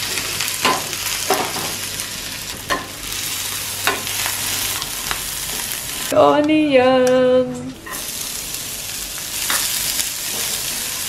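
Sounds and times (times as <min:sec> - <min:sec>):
garlic and chillies sizzling in oil: 0:00.0 - 0:06.2, 0:07.9 - 0:11.0.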